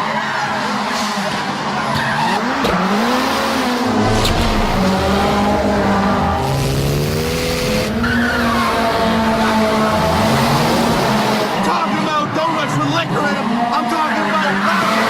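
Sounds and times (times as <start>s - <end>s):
rally car engine revving: 0.4s - 15.0s.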